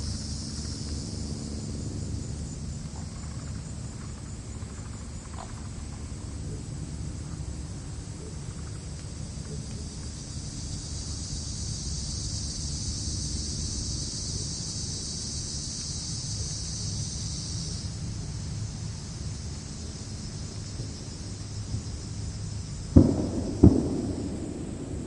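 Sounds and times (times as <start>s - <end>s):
crickets trilling: 0.0s - 25.0s
low wind rumble: 0.0s - 25.0s.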